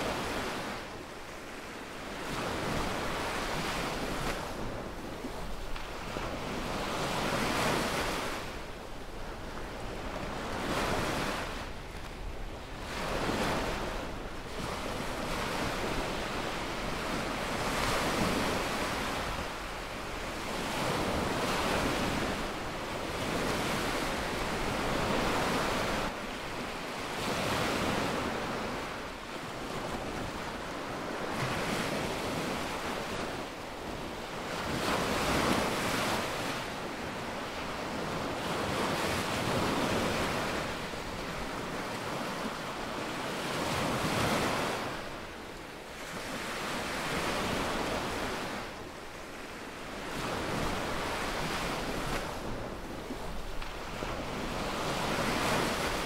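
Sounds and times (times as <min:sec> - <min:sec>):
small waves breaking on beach: 0:00.0 - 0:56.0
wind noise on microphone: 0:00.0 - 0:56.0.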